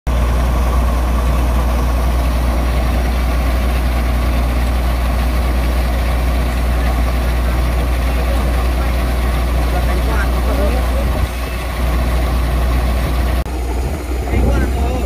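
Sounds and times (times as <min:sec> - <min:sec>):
diesel engine idling: 0:00.1 - 0:15.0.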